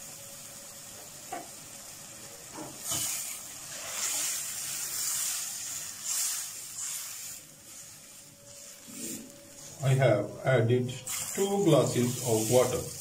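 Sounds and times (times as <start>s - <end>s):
water hissing in hot oil: 0.0s - 10.1s, 10.9s - 13.0s.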